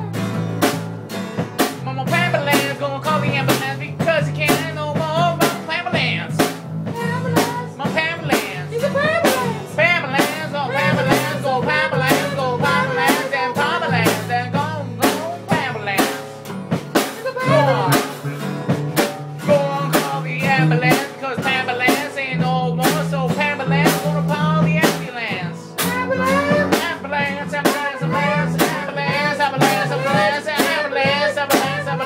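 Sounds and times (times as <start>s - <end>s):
bass and guitar: 0.0s - 32.0s
drum kit beat: 0.0s - 32.0s.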